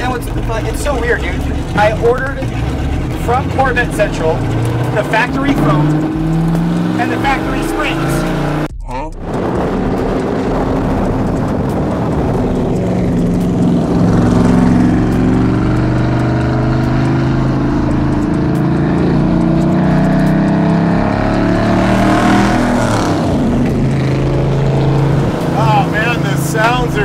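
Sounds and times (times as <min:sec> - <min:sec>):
loud car engine revving: 0:00.0 - 0:27.0.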